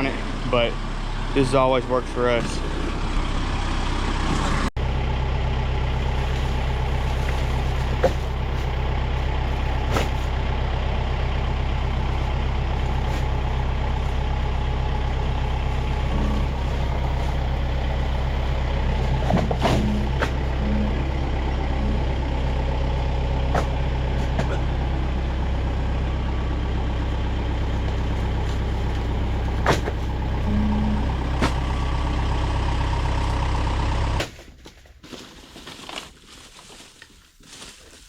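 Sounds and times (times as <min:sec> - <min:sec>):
vehicle engine running: 0:00.0 - 0:34.7.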